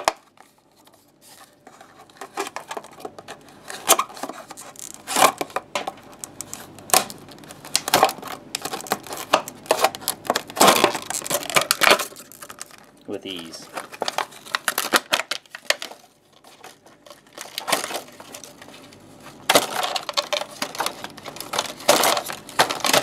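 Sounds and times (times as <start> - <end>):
sharp plastic cracks: 0.0 - 0.6, 2.1 - 23.0
knife cutting plastic packaging: 0.0 - 23.0
plastic scraping and crinkling: 0.0 - 23.0.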